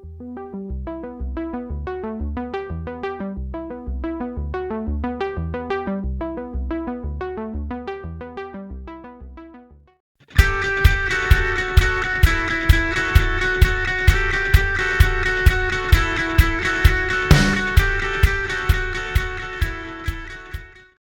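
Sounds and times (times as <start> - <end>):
background music with repeating notes: 0.0 - 20.9.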